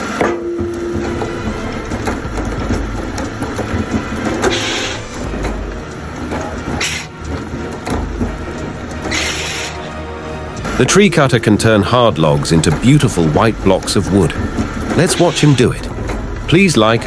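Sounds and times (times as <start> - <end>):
machinery droning and knocking: 0.0 - 17.0.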